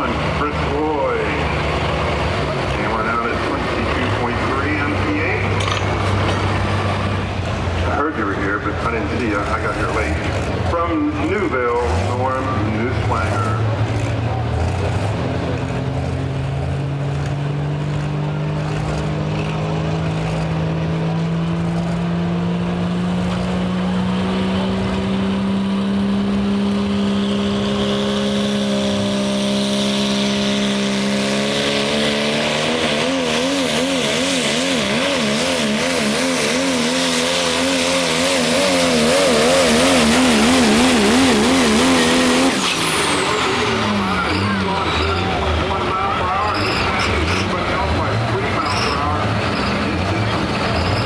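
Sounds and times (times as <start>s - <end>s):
diesel truck engine straining: 0.0s - 51.0s.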